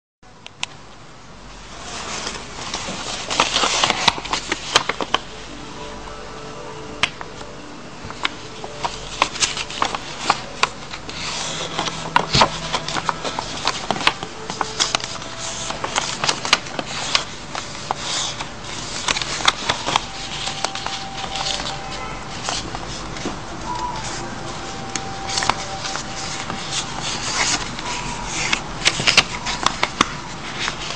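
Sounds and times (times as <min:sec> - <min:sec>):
paper crackling and rustling: 0:01.8 - 0:05.6, 0:08.0 - 0:30.9.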